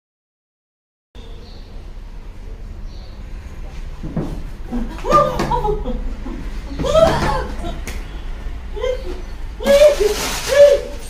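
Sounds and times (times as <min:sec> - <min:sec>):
low rumble of room noise: 0:01.2 - 0:11.0.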